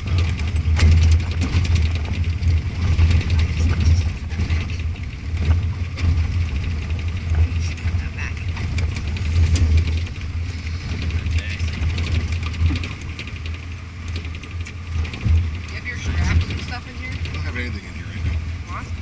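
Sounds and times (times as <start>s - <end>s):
rattles and clicks: 0.0s - 19.0s
vehicle engine and road rumble: 0.0s - 19.0s.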